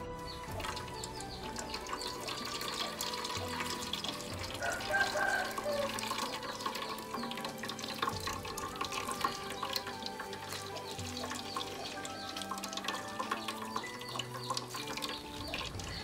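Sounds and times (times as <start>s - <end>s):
milk splashing through a metal strainer: 0.0s - 16.0s.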